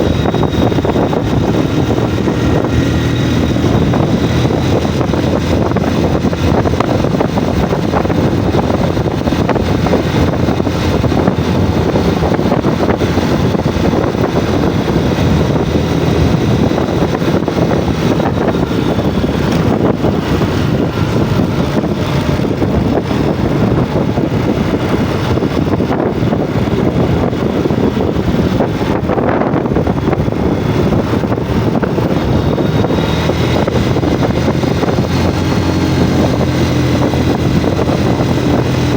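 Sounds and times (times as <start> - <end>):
motorcycle running while ridden: 0.0 - 38.9
wind buffeting on microphone: 0.0 - 38.9.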